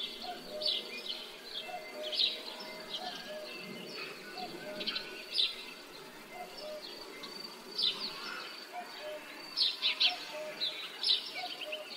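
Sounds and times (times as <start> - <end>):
low background noise: 0.0 - 11.9
small birds chirping: 0.0 - 11.9.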